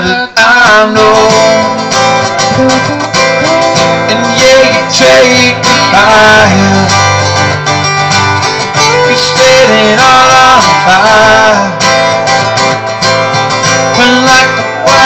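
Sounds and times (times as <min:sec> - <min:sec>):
two guitars strummed: 0:00.0 - 0:15.0.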